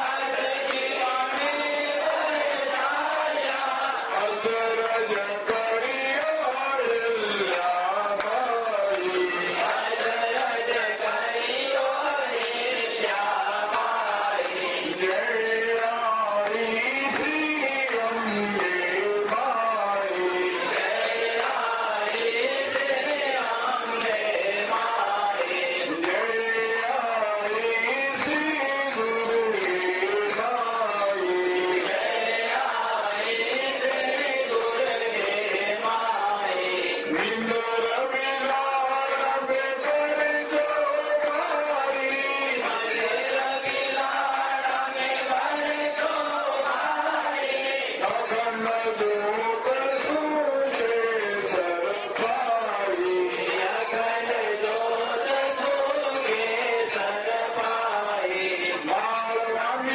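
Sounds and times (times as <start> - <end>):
devotional chanting: 0.0 - 59.9.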